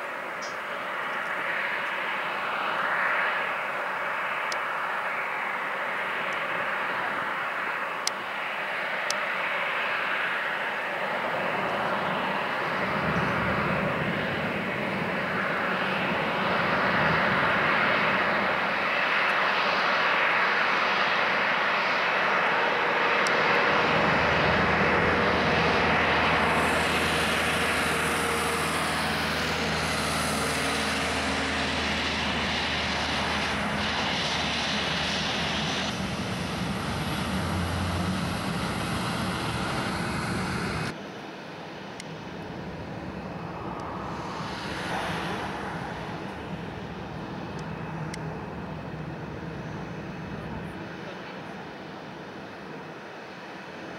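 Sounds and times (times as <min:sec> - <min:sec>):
high engine whine: 0:00.0 - 0:53.9
jet engines rushing hum: 0:00.0 - 0:53.9.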